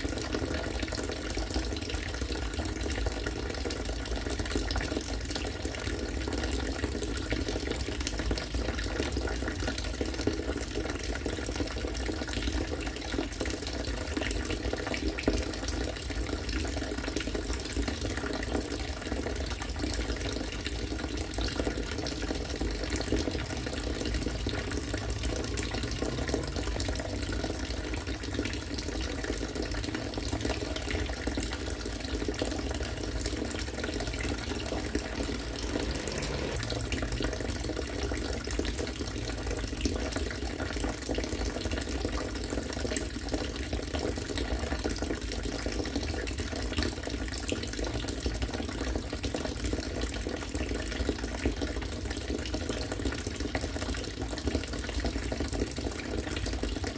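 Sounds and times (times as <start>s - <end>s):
water pouring and splashing: 0.0s - 56.9s.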